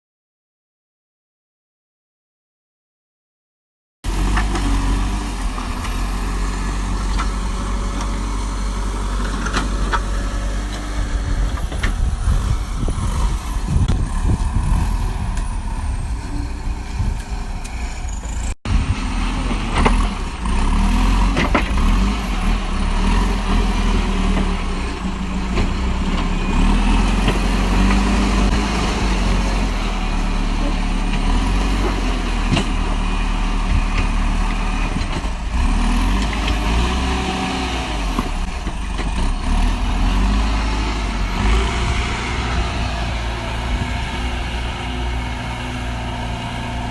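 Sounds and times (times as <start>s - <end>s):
diesel engine running: 4.1s - 46.9s.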